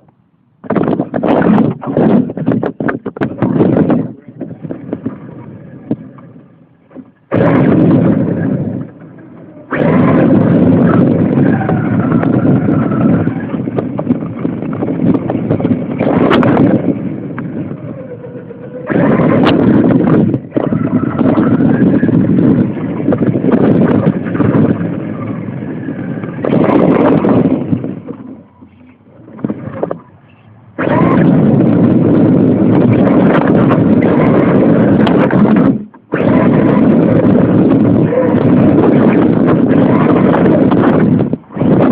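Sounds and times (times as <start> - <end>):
radio-controlled car driving: 7.0 - 41.9.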